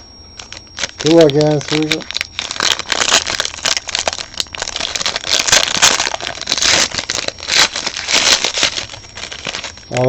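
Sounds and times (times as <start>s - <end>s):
plastic packaging tearing and crinkling: 0.4s - 10.0s.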